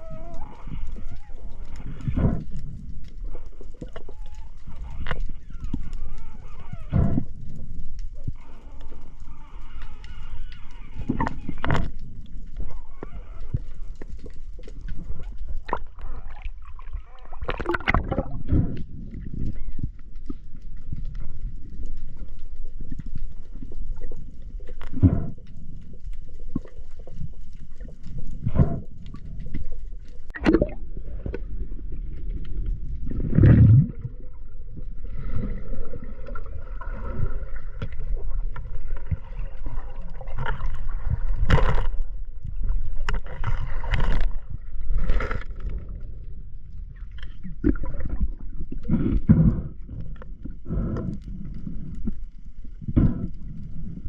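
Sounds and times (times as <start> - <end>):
underwater rushing and gurgling: 0.0 - 54.0.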